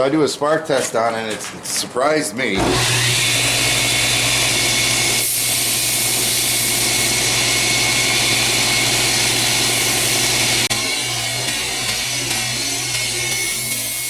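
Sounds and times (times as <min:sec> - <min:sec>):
grinder grinding steel: 0:02.6 - 0:14.0.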